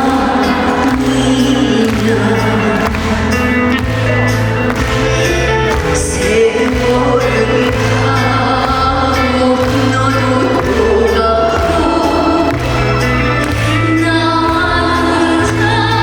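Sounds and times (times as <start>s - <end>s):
backing band with walking bass: 0.0s - 16.0s
person singing: 0.0s - 16.0s.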